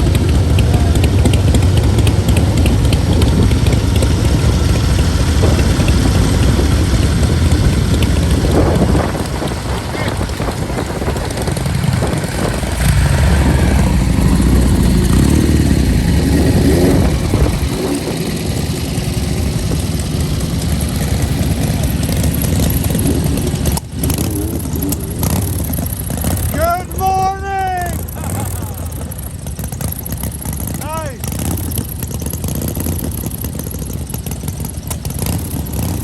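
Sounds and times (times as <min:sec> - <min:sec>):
vehicle engines revving: 0:00.0 - 0:36.0.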